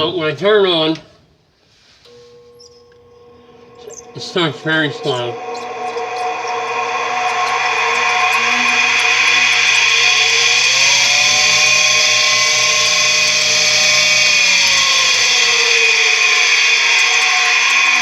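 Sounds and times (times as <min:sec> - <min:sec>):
furnace motor high-pitched whine: 0:00.0 - 0:01.1, 0:02.0 - 0:18.0.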